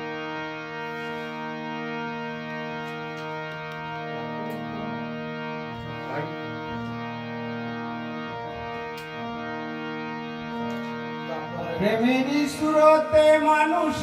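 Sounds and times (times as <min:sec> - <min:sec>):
bending harmonium notes: 0:00.0 - 0:14.0
harmonium sustained chord: 0:00.0 - 0:14.0.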